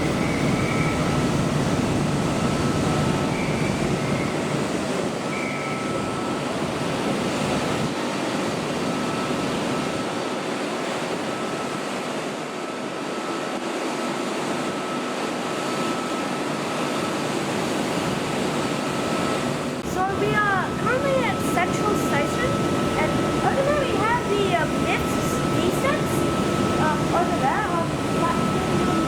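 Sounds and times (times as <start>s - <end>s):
electric train hum and rumble: 0.0s - 29.0s
faint high whine: 0.0s - 29.0s.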